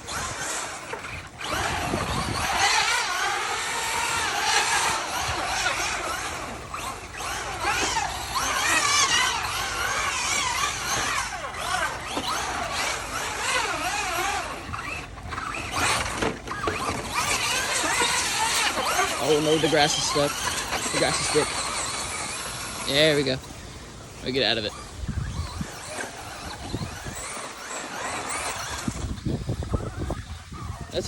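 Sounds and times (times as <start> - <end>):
toy truck electric motor whining: 0.0 - 31.0.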